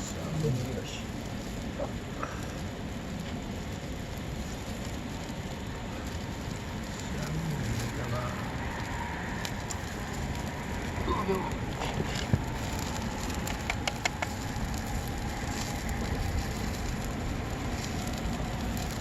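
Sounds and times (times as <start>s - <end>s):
campfire crackling and hissing: 0.0s - 19.0s.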